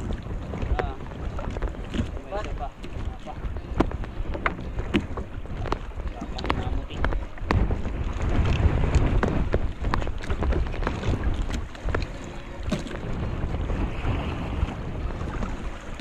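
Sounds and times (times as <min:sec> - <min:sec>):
water sloshing against boat: 0:00.0 - 0:16.0
wind buffeting microphone: 0:00.0 - 0:16.0.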